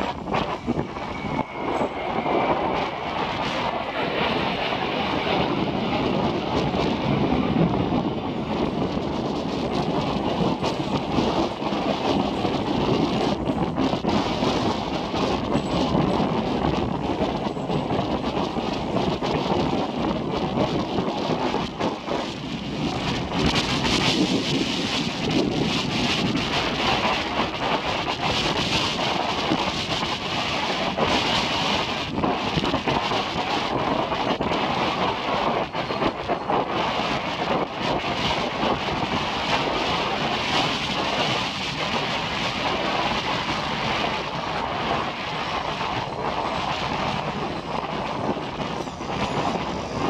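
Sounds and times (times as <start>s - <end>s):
jet roar: 0.0s - 50.0s
wind buffeting microphone: 0.0s - 50.0s.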